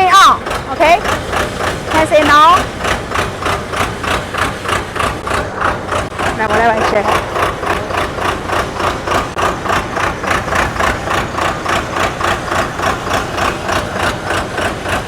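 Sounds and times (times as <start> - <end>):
pneumatic drill engine pulsing: 0.0 - 15.0.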